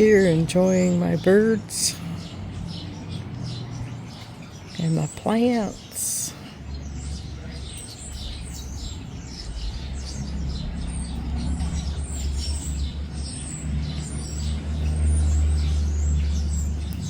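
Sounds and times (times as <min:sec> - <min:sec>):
low vehicle engine rumble: 0:00.0 - 0:17.0
songbirds chirping: 0:00.0 - 0:17.0.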